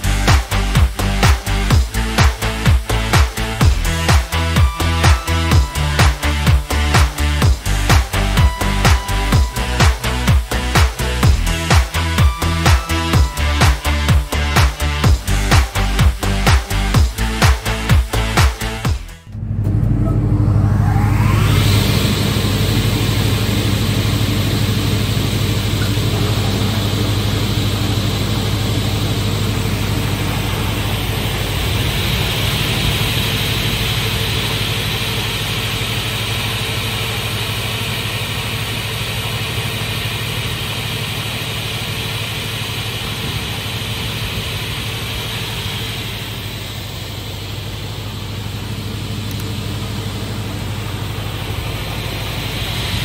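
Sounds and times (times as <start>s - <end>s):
saw motor humming: 0.0s - 53.0s.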